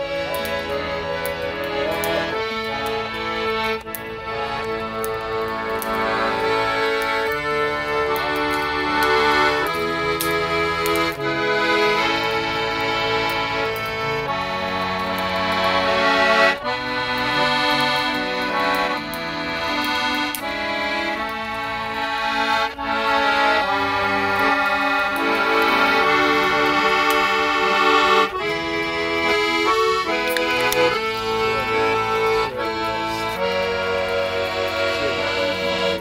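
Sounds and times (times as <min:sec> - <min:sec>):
piano accordion playing a tune: 0:00.0 - 0:36.0.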